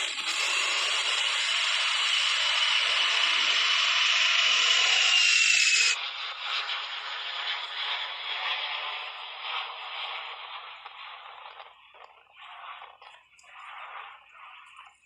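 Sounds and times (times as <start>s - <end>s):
jet engine rush and whine: 0.0s - 15.0s.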